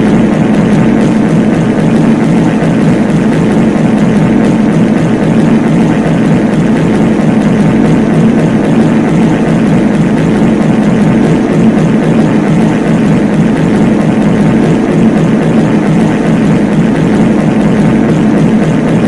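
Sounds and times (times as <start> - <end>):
stacked fart sounds low drone: 0.0 - 19.0.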